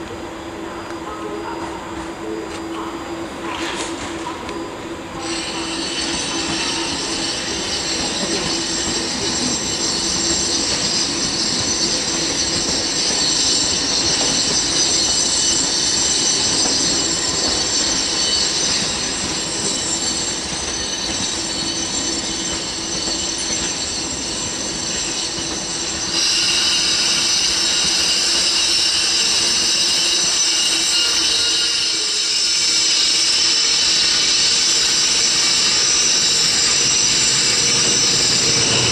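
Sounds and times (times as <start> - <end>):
low train hum: 0.0 - 38.9
train wheels squealing on rails: 0.0 - 38.9.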